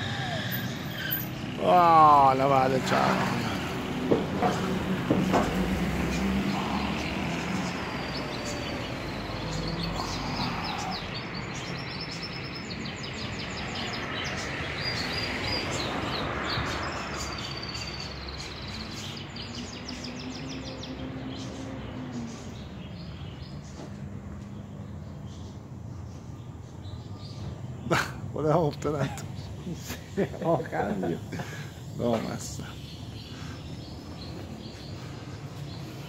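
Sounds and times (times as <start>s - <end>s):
small birds chirping: 0.0s - 36.0s
traffic noise: 0.0s - 36.0s.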